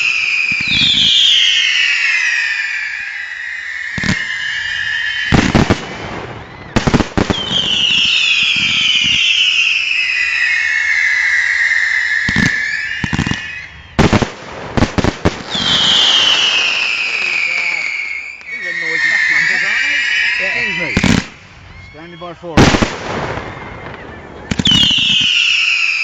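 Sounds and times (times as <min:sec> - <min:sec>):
firework bangs: 0:00.0 - 0:26.0
whistling fireworks: 0:00.0 - 0:26.0.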